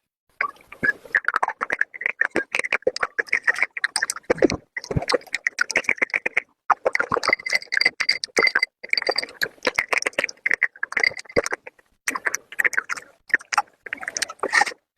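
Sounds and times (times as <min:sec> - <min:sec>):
pencil being chewed crunching: 0:01.1 - 0:14.8.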